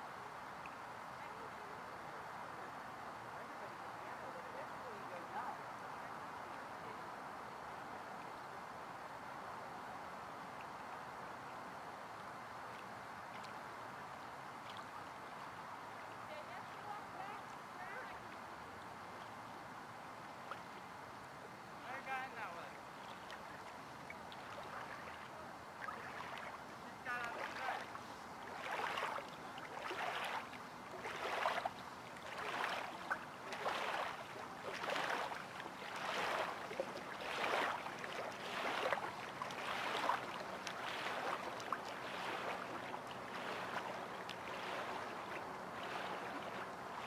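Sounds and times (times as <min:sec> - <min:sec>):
wavelets lapping at shore: 0:00.0 - 0:47.0.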